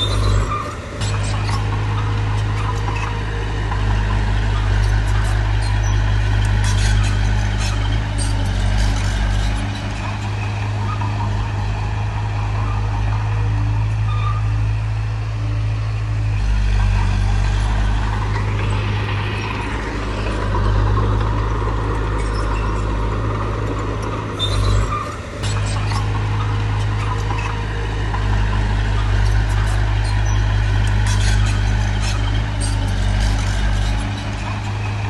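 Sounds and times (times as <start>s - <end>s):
heavy diesel engine droning: 0.0s - 35.0s.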